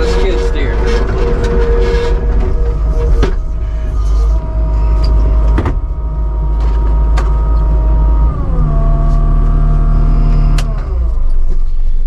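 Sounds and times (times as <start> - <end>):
diesel engine whining and rumbling: 0.0 - 12.0.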